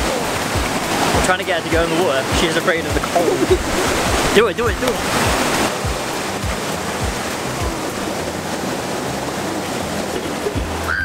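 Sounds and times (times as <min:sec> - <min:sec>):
background music beat: 0:00.0 - 0:11.0
rushing waterfall: 0:00.0 - 0:11.0.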